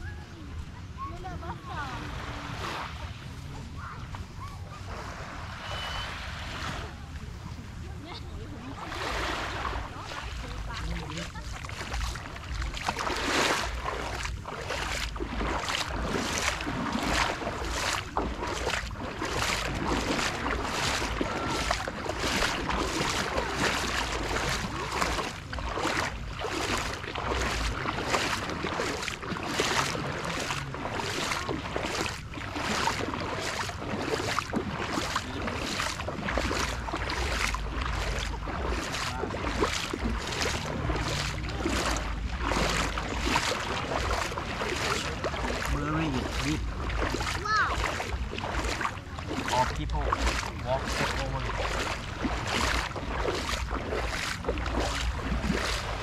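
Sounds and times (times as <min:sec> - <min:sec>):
seawater splashing and lapping: 0:00.0 - 0:56.0
wind rumbling on microphone: 0:00.0 - 0:56.0.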